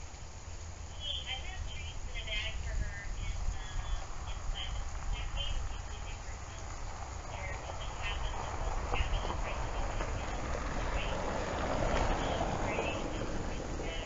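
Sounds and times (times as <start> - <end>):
rush of noise: 0.0 - 14.0
steady low rumble: 0.0 - 14.0.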